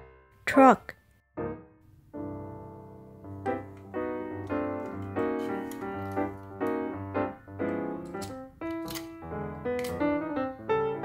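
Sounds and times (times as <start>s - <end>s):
simple piano melody: 0.0s - 11.0s.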